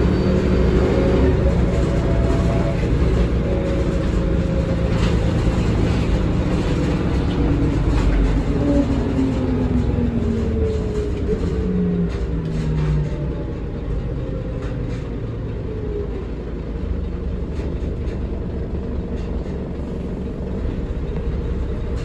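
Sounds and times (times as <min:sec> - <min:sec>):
bus diesel engine drone: 0:00.0 - 0:22.0
drivetrain whine: 0:00.0 - 0:22.0.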